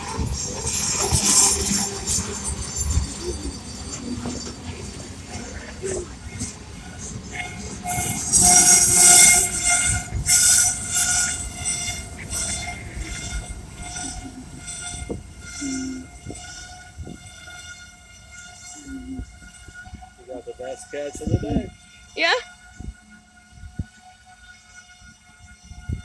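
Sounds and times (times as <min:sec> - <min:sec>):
train brakes squealing: 0:00.0 - 0:26.0.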